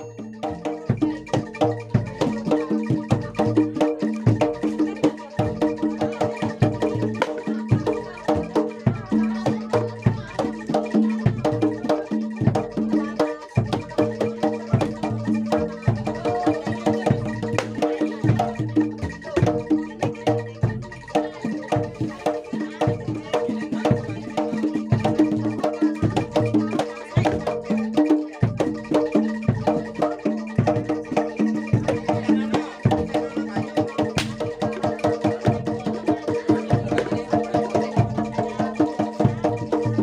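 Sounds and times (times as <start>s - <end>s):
drum strokes: 0.0s - 40.0s
struck tuned percussion: 0.0s - 40.0s.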